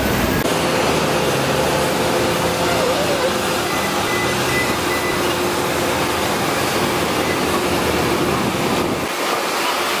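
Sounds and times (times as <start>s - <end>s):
aircraft and ground equipment roar: 0.0s - 10.0s.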